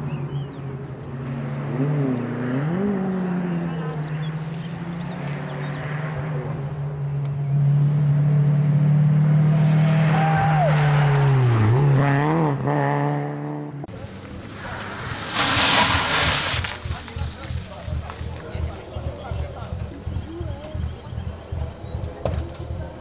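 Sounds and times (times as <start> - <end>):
rally car engine revving: 0.0 - 20.2.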